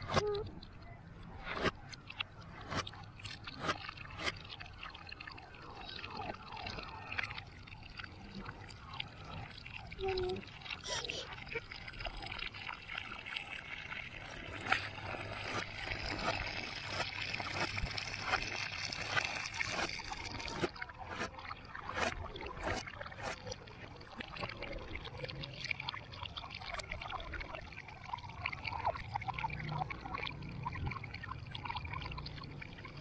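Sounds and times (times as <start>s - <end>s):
hose water pouring into bucket: 2.6s - 33.0s.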